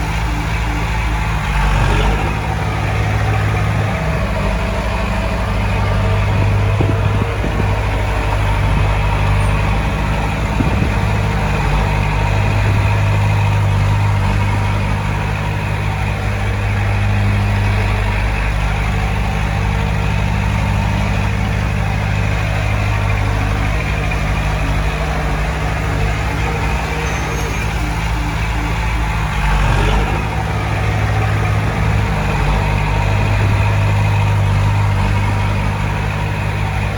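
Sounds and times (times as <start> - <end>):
heavy diesel engine droning: 0.0 - 36.9.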